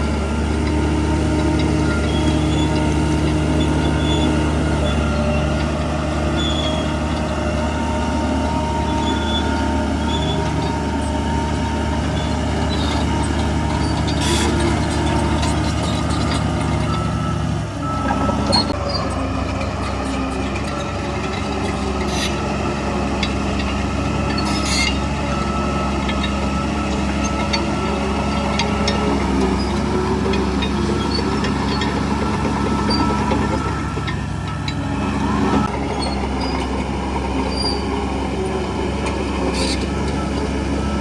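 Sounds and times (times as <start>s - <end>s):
diesel machinery engine running: 0.0s - 41.0s.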